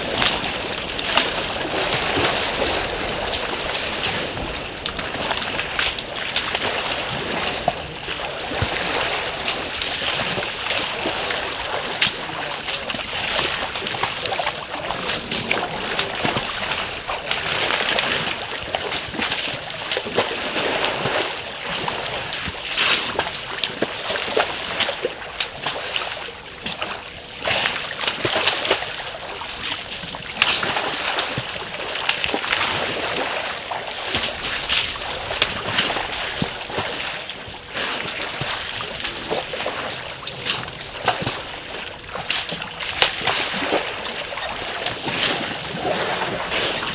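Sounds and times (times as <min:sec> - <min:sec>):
elephants splashing: 0:00.0 - 0:46.9
water sloshing: 0:00.0 - 0:46.9.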